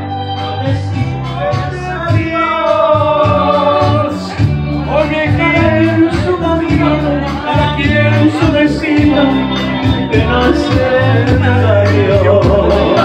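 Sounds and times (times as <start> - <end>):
bass line of held notes: 0.0 - 13.0
male singer: 0.0 - 13.0.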